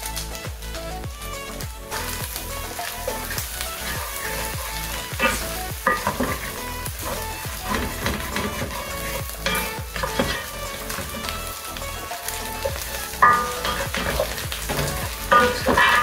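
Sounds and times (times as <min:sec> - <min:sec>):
background music with steady beat: 0:00.0 - 0:16.0
meat sizzling in oil: 0:00.0 - 0:16.0.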